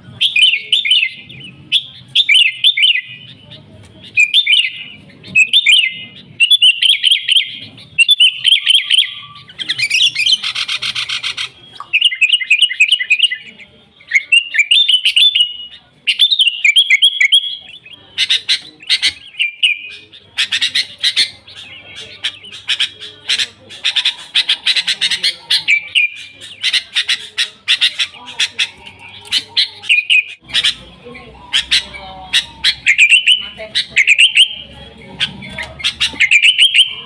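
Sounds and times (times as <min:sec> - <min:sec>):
bird scratchy chatter: 0:00.0 - 0:37.0
bird chirping song: 0:00.1 - 0:37.0.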